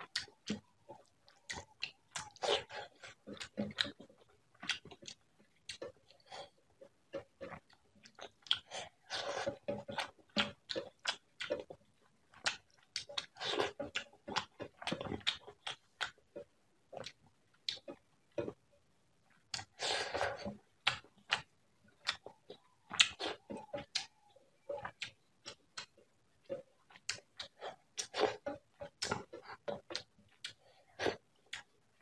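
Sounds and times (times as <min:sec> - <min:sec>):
wet chewing and lip-smacking: 0:00.0 - 0:18.6, 0:19.3 - 0:32.0.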